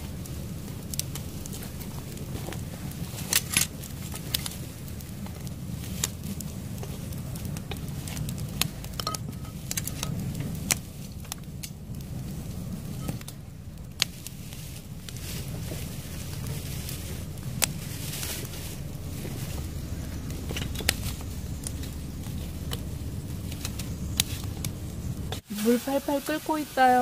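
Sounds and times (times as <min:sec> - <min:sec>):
steady low rumble: 0:00.0 - 0:27.0
wood fire crackling and popping: 0:00.0 - 0:27.0.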